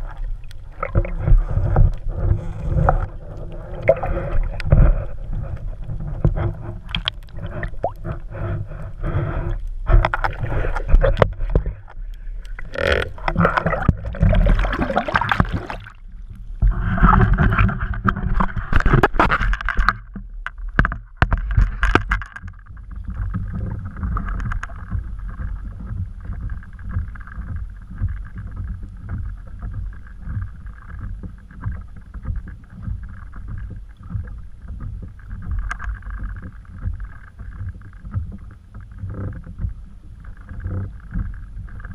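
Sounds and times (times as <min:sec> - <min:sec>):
steady underwater rumble with hiss: 0:00.0 - 0:41.9
water sloshing around camera: 0:00.0 - 0:41.9.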